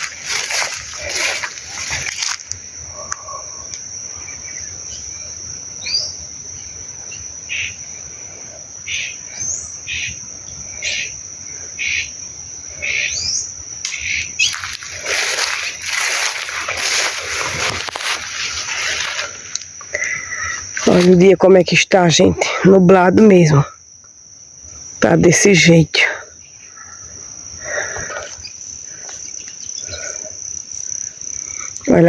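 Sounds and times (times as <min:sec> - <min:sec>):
insect drone: 0:00.0 - 0:32.0.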